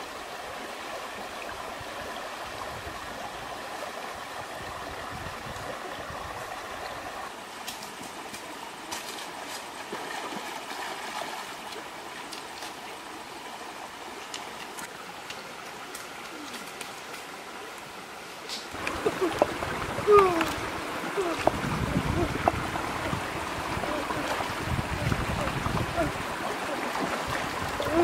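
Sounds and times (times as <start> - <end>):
stream babbling over rocks: 0.0 - 28.0.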